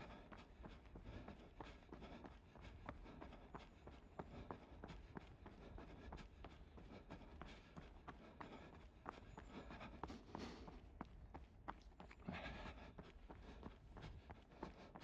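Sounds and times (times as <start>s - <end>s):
runner footsteps: 0.0s - 15.0s.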